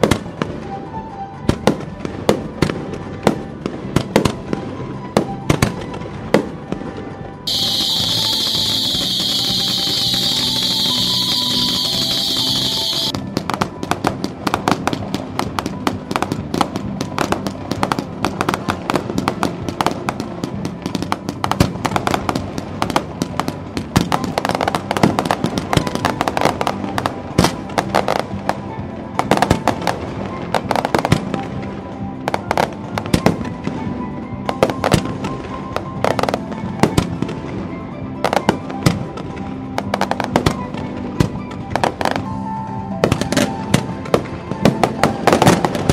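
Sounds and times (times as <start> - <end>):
music playing: 0.0 - 45.9
fireworks bursting and crackling: 7.5 - 37.6, 38.3 - 42.4, 43.0 - 45.9.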